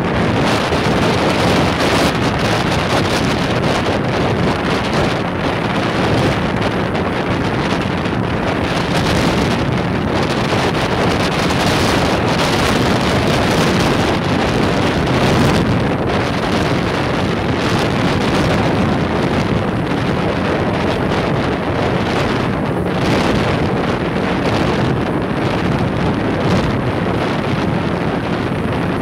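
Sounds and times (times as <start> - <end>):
outboard motor running: 0.0 - 29.0
wind buffeting microphone: 0.0 - 29.0.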